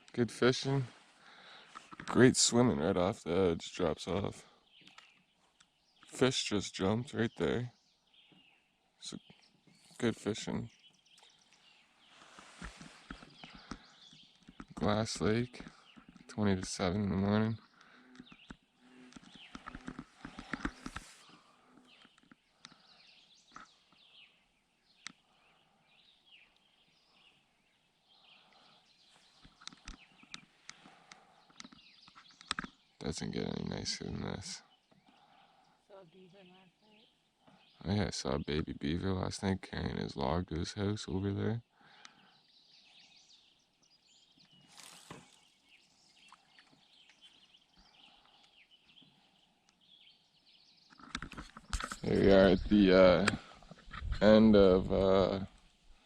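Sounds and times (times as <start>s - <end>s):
faint birdsong: 0.0s - 56.0s
songbirds chirping: 0.0s - 56.0s.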